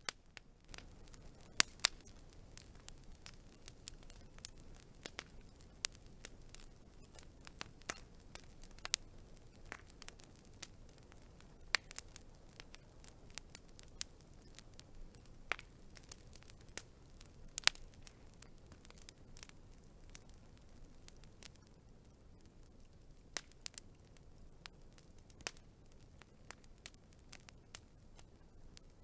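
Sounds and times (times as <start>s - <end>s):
soft fire hiss: 0.0s - 29.0s
wood fire popping and snapping: 0.0s - 29.0s.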